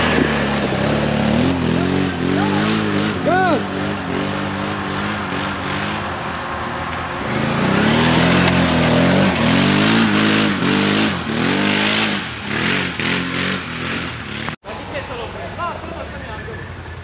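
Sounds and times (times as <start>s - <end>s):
wheels spinning and throwing dirt: 0.0s - 3.2s, 3.9s - 14.9s
atv engine revving: 0.0s - 14.6s.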